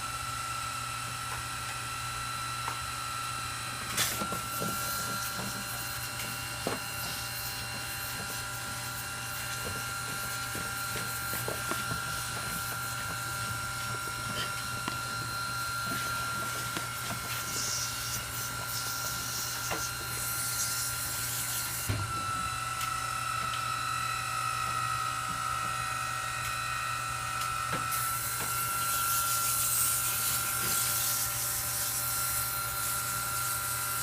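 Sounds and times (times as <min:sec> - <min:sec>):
pressure-washer pump whining: 0:00.0 - 0:34.0.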